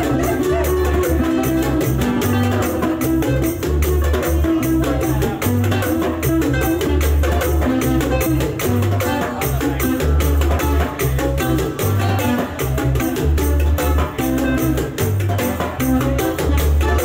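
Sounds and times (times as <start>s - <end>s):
acoustic guitar: 0.0s - 17.0s
drums played with sticks: 0.0s - 17.0s
fast rattling percussion: 0.0s - 17.0s.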